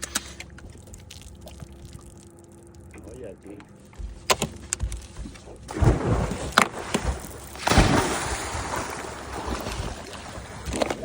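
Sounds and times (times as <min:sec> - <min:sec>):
water sloshing around boat: 0:00.0 - 0:11.0.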